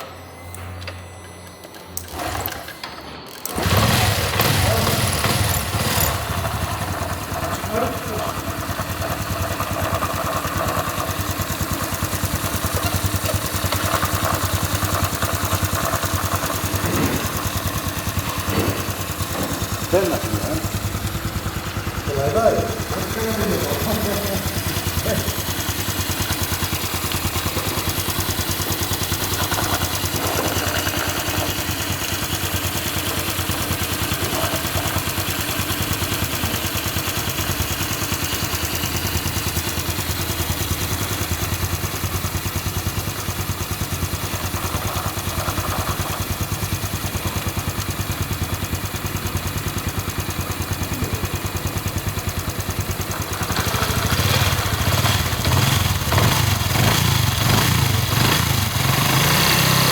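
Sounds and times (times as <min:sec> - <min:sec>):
motorcycle engine idling: 0:03.5 - 0:59.9.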